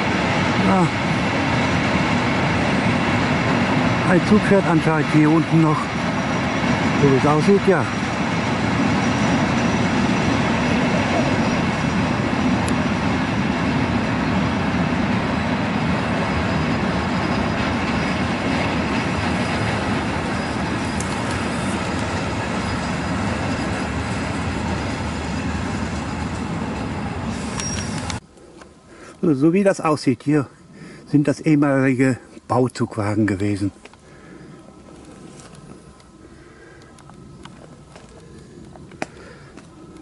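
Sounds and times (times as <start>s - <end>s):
train wagons rolling on rails: 0.0s - 30.0s, 31.2s - 40.0s.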